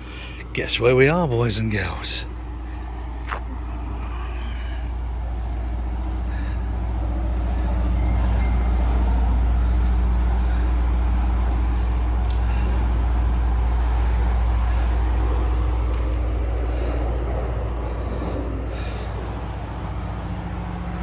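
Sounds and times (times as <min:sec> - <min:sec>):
heavy engine droning: 0:00.0 - 0:21.0.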